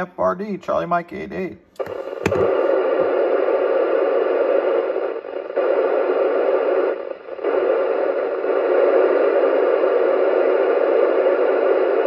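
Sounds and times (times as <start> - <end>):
radio receiver hiss: 1.4 - 12.0.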